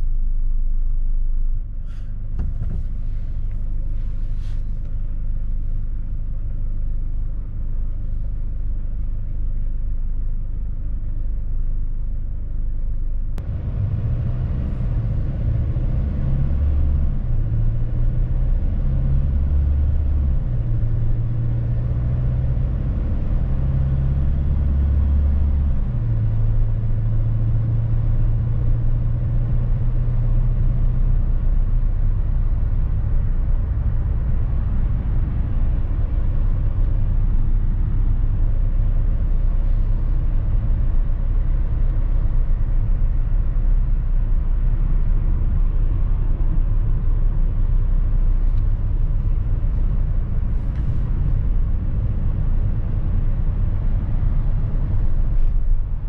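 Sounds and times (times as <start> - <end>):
engine and tyre road rumble: 0.0 - 56.0
engine hum rising in pitch: 0.0 - 56.0.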